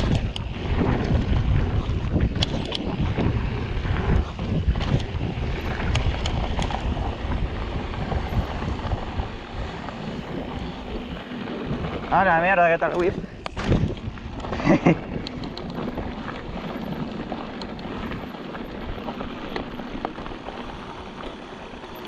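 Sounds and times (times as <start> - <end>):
bike clicks and rattles: 0.0 - 22.0
bike tyre noise: 0.0 - 22.0
wind rush on microphone: 0.0 - 22.0.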